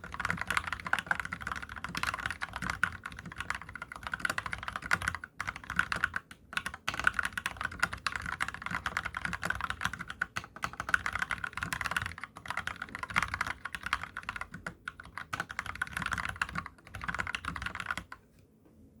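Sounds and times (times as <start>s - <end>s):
fast typing on mechanical keyboard: 0.0s - 18.2s.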